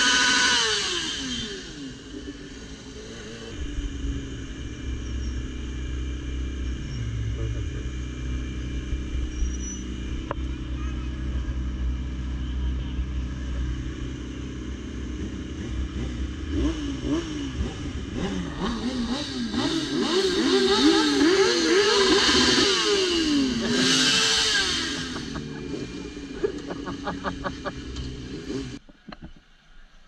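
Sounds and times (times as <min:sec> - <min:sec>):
motorcycle engines revving: 0:00.0 - 0:29.2.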